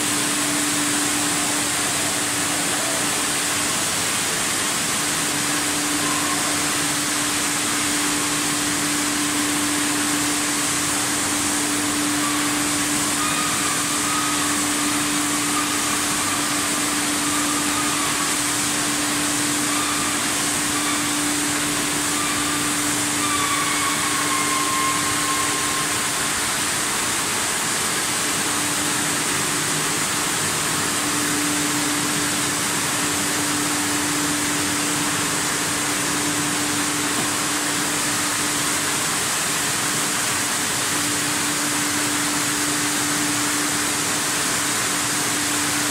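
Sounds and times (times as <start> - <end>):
bottling machinery humming: 0.0 - 45.9
high hiss: 0.0 - 45.9.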